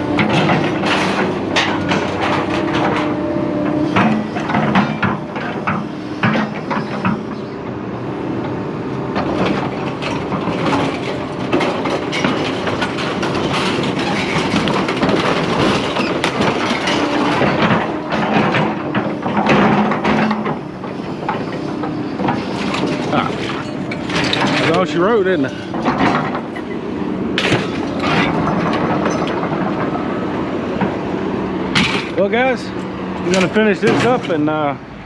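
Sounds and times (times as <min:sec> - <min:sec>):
scrap metal clanging and clattering: 0:00.0 - 0:07.4, 0:09.2 - 0:34.8.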